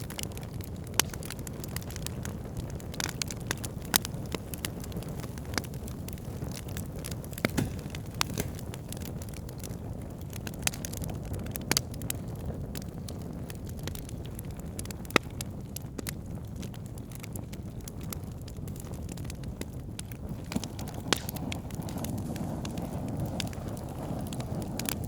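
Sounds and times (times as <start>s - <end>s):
burning logs crackling: 0.0s - 25.0s
campfire flames rumbling: 0.0s - 25.0s.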